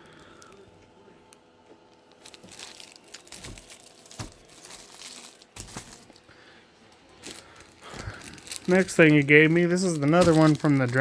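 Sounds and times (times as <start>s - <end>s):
wrapping crinkling: 2.0s - 11.0s.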